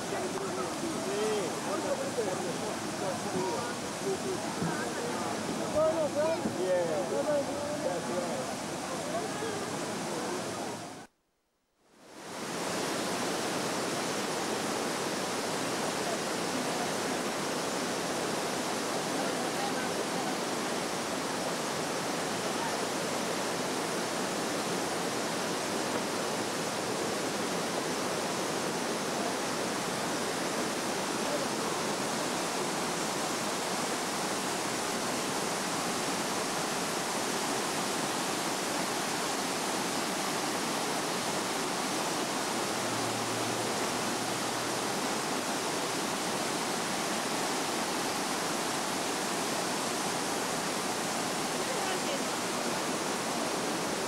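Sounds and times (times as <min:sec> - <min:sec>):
waterfall rushing over rocks: 0:00.0 - 0:11.1, 0:12.1 - 0:54.0.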